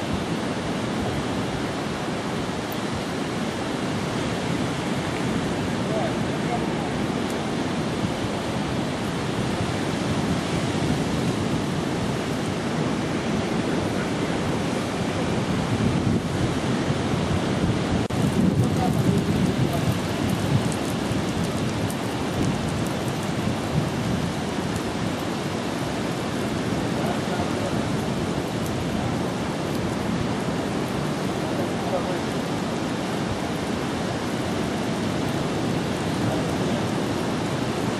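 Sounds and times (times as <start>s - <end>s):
sea surf roar: 0.0s - 37.9s
wind on microphone: 0.0s - 37.9s.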